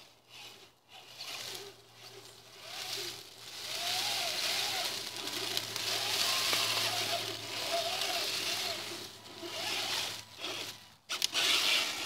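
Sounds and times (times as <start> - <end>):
wheels churning mud: 0.0 - 12.0
toy truck motor whine: 0.3 - 12.0.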